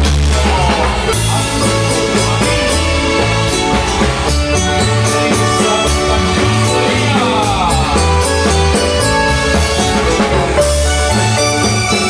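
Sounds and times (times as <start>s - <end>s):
marimba band playing: 0.0s - 12.0s.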